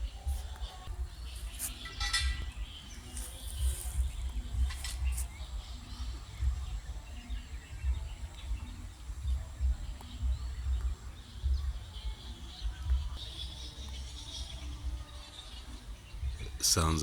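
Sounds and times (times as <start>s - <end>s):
high chirping of small animals: 0.0s - 17.0s.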